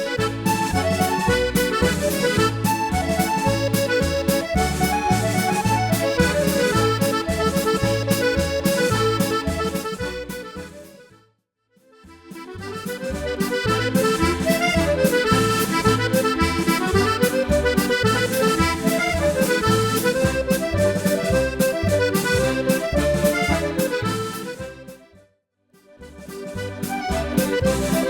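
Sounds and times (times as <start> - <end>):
accordion playing a reel: 0.0 - 25.2, 25.8 - 28.0.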